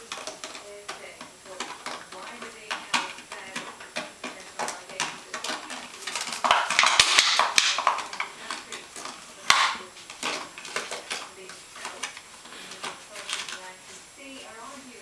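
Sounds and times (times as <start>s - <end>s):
paper crinkling and rustling: 0.0s - 14.0s.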